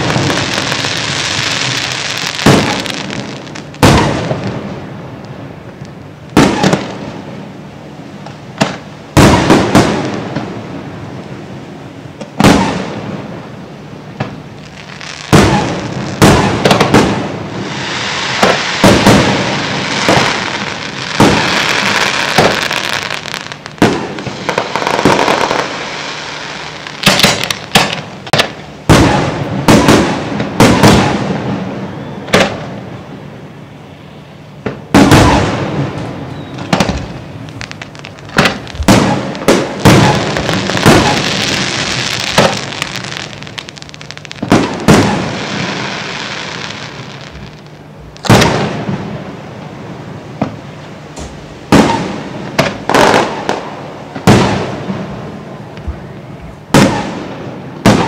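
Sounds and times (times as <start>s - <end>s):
firework shells booming: 0.0s - 4.9s, 6.3s - 7.3s, 8.6s - 10.6s, 12.2s - 13.4s, 15.3s - 26.1s, 26.9s - 32.8s, 34.6s - 49.2s, 50.4s - 56.1s, 56.7s - 58.0s
fireworks crackling and hissing: 0.0s - 58.0s.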